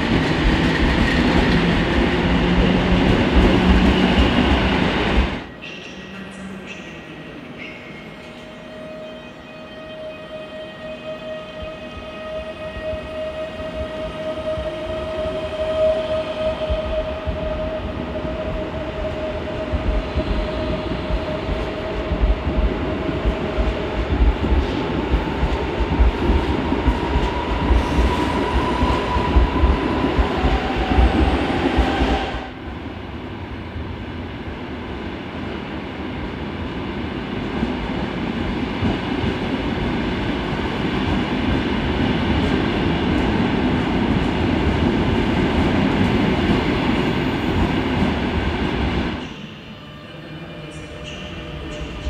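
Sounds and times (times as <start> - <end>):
train wheel and rail rumble: 0.0 - 52.0.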